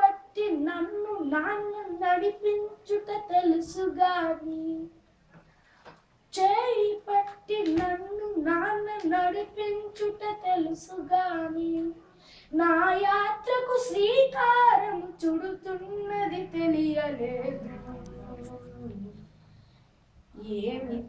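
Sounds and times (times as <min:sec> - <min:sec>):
boy singing: 0:00.0 - 0:05.0, 0:06.3 - 0:19.3, 0:20.4 - 0:21.0.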